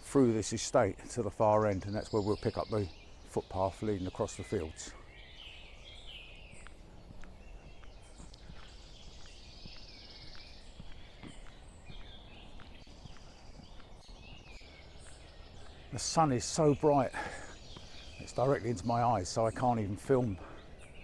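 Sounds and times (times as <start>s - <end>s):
footsteps crunching on path: 0.0s - 21.0s
small birds chirping: 0.0s - 21.0s.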